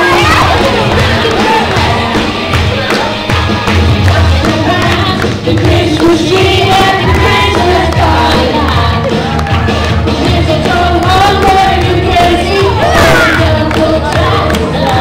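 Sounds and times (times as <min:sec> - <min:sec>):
pop music with singing: 0:00.0 - 0:15.0
steady bass beat: 0:00.0 - 0:15.0.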